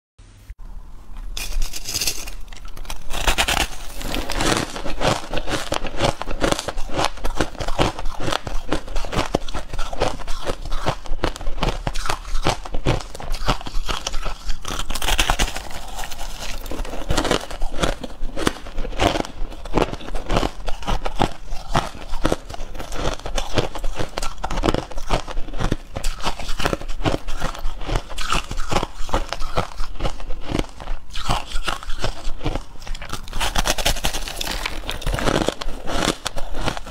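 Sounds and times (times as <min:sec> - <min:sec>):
person chewing crushed ice: 0:01.4 - 0:36.9.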